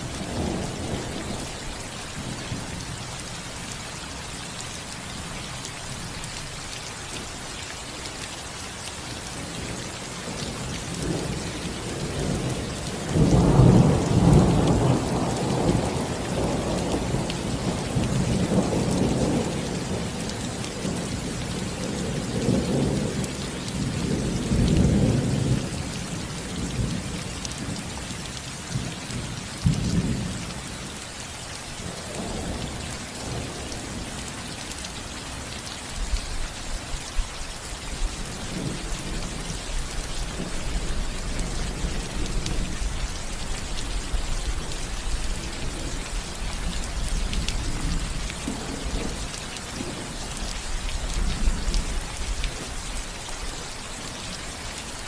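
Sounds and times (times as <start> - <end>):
rain pattering on a roof: 0.0 - 55.0.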